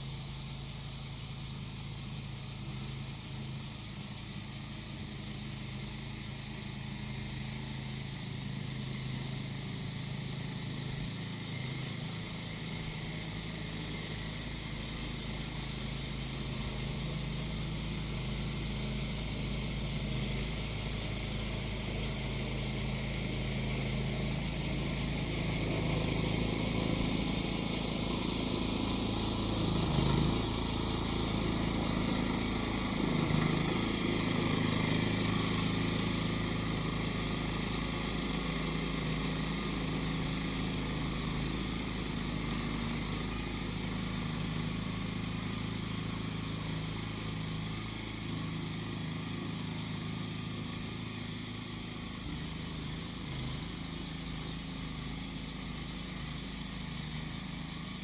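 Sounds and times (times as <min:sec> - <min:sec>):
cicadas shrilling: 0:00.0 - 0:58.0
lawn mower engine running: 0:00.0 - 0:58.0.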